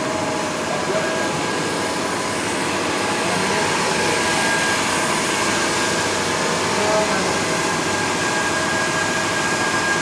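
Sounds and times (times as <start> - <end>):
blower fan running: 0.0 - 10.0.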